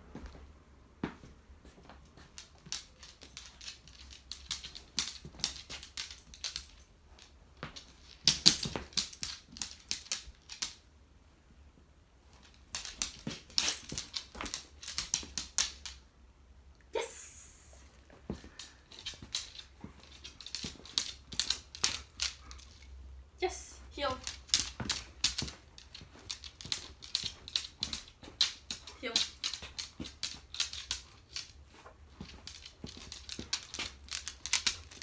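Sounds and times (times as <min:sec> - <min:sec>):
dog's claws clicking on wooden floor: 0:01.8 - 0:10.8, 0:12.3 - 0:16.0, 0:18.3 - 0:22.9, 0:23.9 - 0:35.0.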